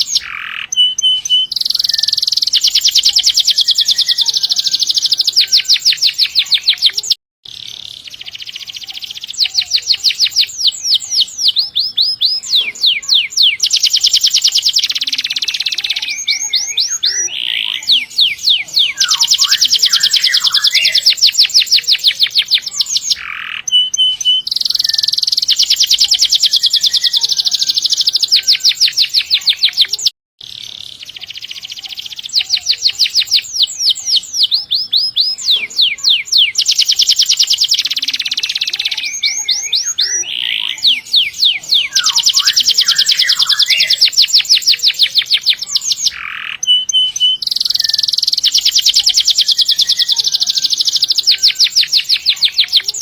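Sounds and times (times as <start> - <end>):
canary singing in rolling trills: 0.0 - 53.0.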